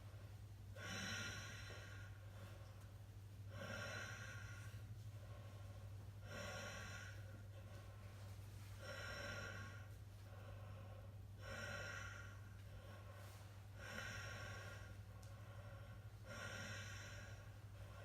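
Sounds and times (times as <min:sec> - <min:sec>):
faint low hum: 0:00.0 - 0:18.0
person breathing heavily: 0:00.7 - 0:18.0.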